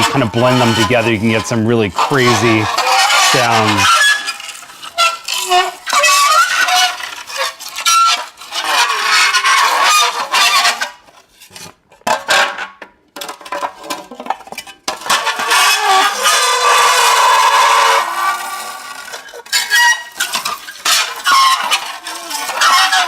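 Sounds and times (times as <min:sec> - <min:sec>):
metal squealing against dry ice: 0:00.0 - 0:11.0, 0:14.9 - 0:23.0.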